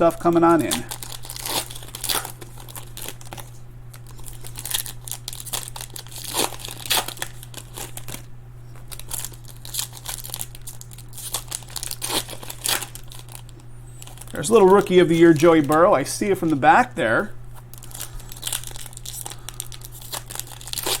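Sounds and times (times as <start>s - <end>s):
card pack wrappers crinkling: 0.0s - 21.0s
steady low hum: 0.0s - 21.0s.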